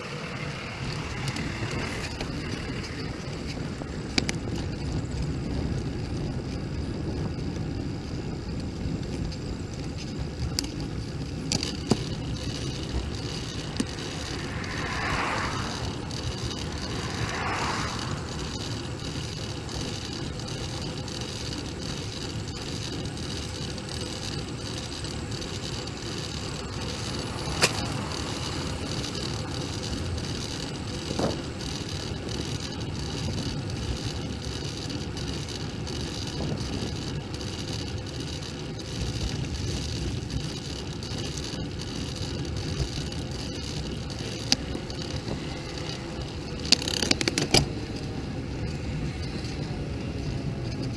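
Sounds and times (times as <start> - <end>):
wind and road rumble: 0.0 - 50.9.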